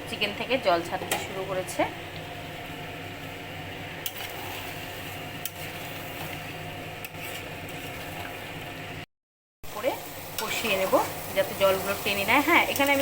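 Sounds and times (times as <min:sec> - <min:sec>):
mechanical hum with tones: 0:00.0 - 0:09.1, 0:09.7 - 0:13.0.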